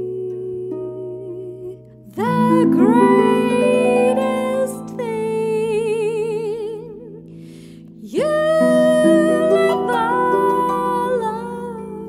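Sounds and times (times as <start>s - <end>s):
harp playing chords: 0.0s - 12.0s
woman singing: 0.0s - 12.0s.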